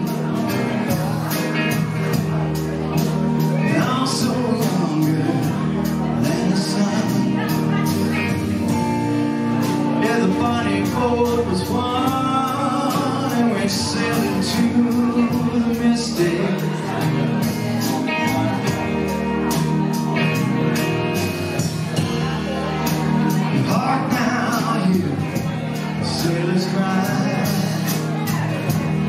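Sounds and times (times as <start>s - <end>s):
man singing: 0.0s - 21.0s, 21.6s - 29.0s
live band playing slow song: 0.0s - 29.0s.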